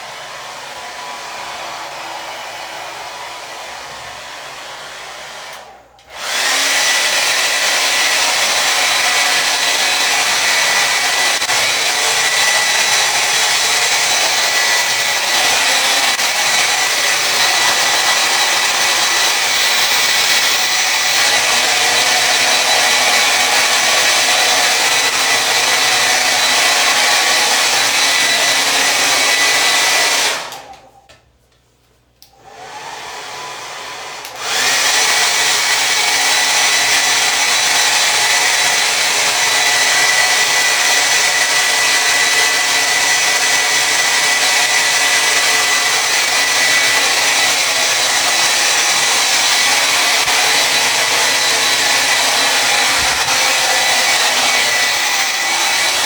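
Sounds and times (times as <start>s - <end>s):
hair dryer blowing: 0.0s - 31.1s, 32.2s - 56.0s.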